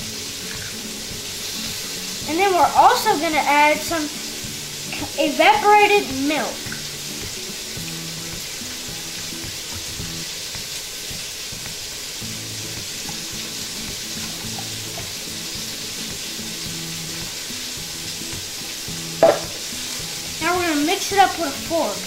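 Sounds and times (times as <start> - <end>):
sausage sizzling in a pot: 0.0 - 22.0
soft background music: 0.0 - 22.0.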